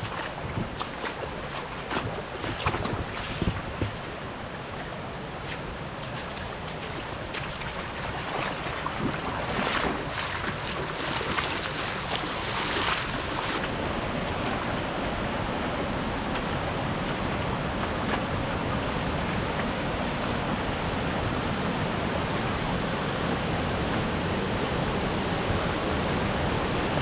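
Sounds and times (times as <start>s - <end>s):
creek flowing over gravel: 0.0s - 27.0s
wind noise on microphone: 0.0s - 27.0s.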